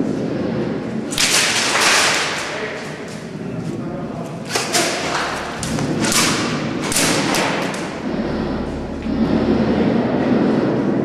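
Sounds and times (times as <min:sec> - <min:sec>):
low rumble of movement: 0:00.0 - 0:11.0.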